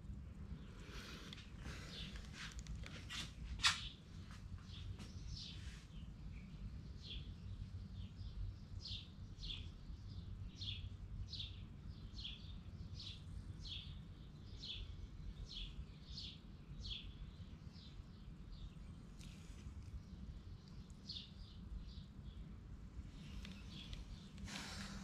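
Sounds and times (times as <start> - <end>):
steady low hum: 0.0 - 25.0
bird chirping: 0.5 - 25.0.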